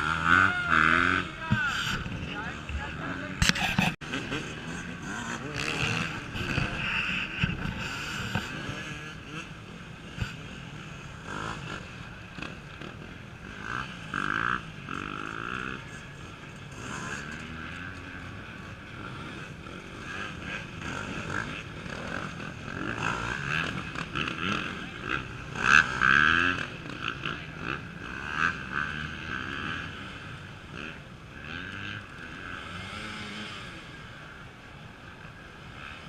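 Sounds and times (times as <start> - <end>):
motorcycles revving: 0.0 - 36.0.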